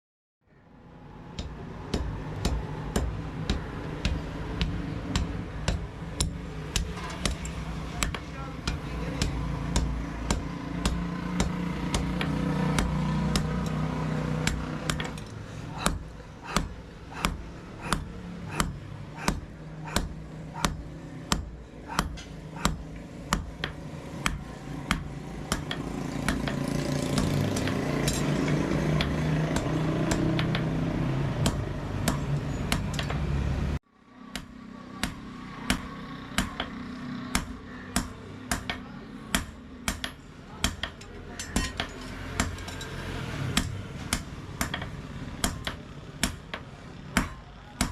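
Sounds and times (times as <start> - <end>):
hammer striking steel on anvil: 1.3 - 30.7, 34.3 - 43.0, 43.6 - 47.9.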